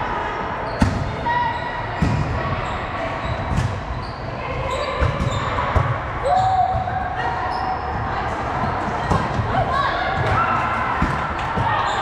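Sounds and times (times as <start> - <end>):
sneaker squeaks: 0.6 - 9.4, 10.2 - 12.0.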